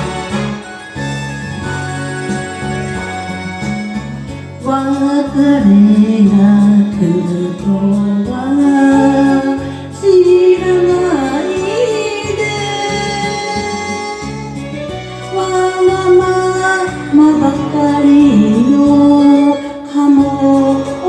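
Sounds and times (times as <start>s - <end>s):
instrumental accompaniment with bass: 0.0s - 21.0s.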